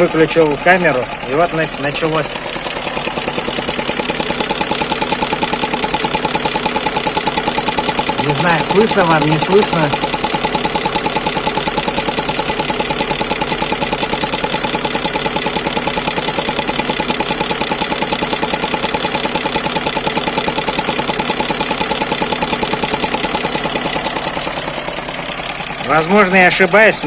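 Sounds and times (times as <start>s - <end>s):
car engine idling: 0.0s - 27.0s
rapid ticking clatter: 0.0s - 27.0s.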